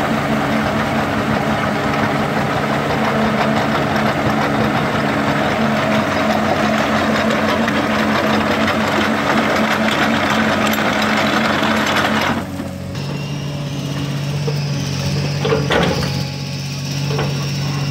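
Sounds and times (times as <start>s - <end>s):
excavator engine running: 0.0s - 17.9s.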